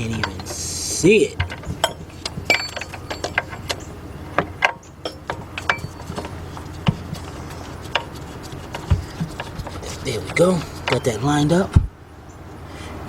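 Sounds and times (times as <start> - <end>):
metal clicks and knocks: 0.0 - 12.0
steady low hum: 0.0 - 13.0.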